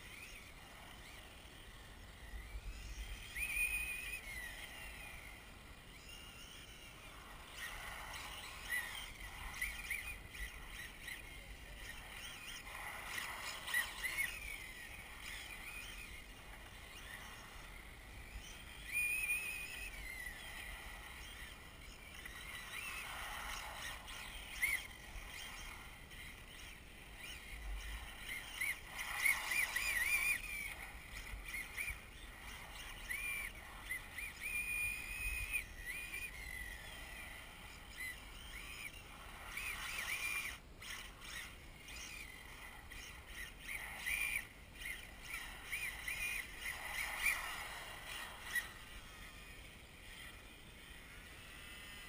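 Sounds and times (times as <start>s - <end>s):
rc car motor whine: 0.0s - 52.0s.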